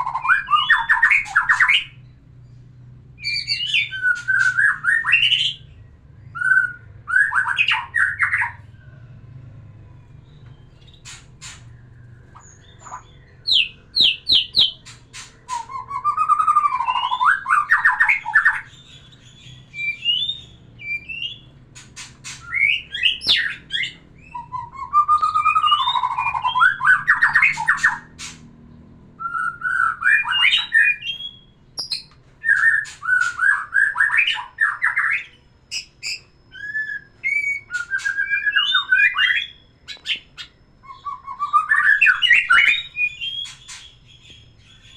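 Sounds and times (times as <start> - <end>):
bird singing varied phrases: 0.0 - 8.7, 10.2 - 28.5, 29.1 - 44.9.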